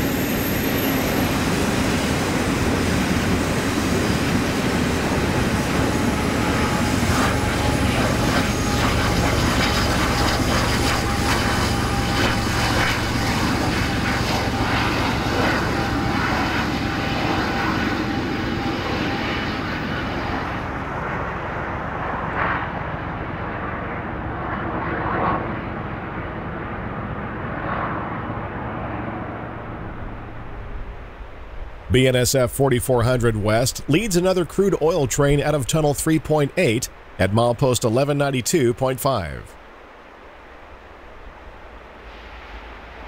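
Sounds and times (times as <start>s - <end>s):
low train drone: 0.0s - 43.0s.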